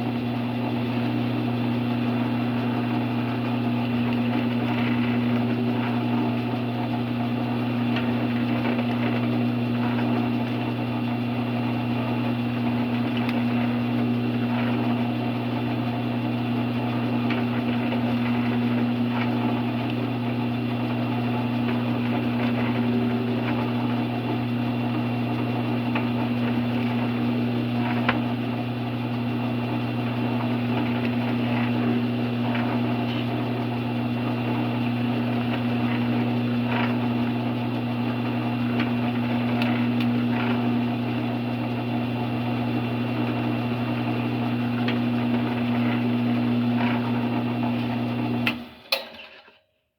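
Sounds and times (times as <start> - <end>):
drill press motor hum: 0.0 - 49.0.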